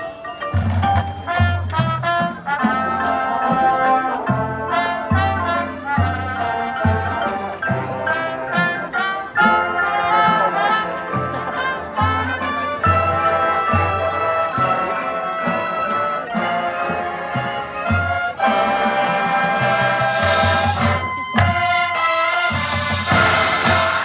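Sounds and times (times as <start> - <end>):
marching band playing: 0.0 - 24.0.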